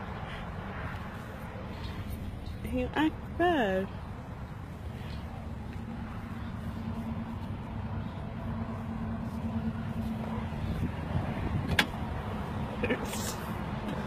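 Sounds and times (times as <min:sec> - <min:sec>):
small engine rumbling: 0:00.0 - 0:14.0.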